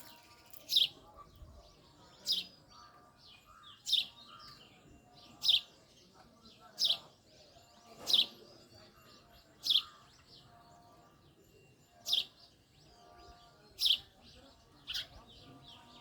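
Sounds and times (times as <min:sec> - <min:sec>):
faint sparrow chirping: 0:00.0 - 0:16.0
sparrow sharp chirps: 0:00.0 - 0:16.0.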